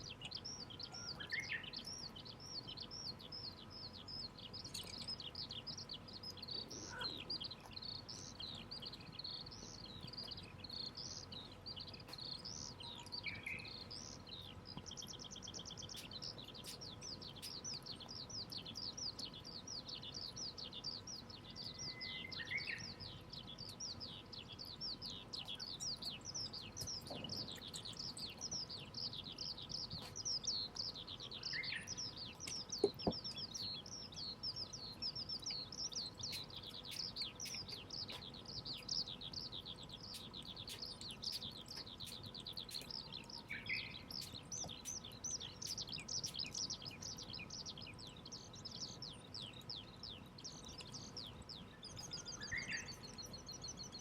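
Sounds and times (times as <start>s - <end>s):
lower falling bird calls: 0.0s - 54.0s
small birds chirping: 0.0s - 54.0s.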